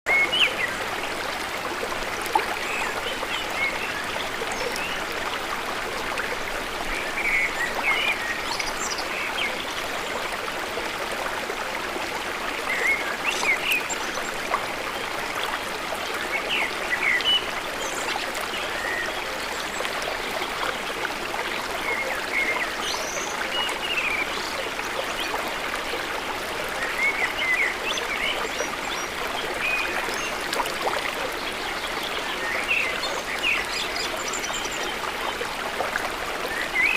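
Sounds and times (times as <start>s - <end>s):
stream water running: 0.1s - 36.9s.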